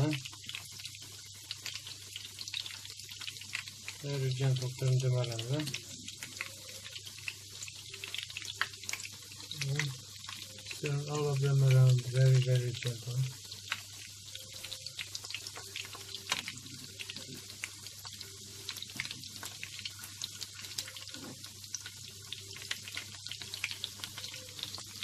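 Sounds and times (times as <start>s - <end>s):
chicken frying in oil: 0.0s - 25.0s.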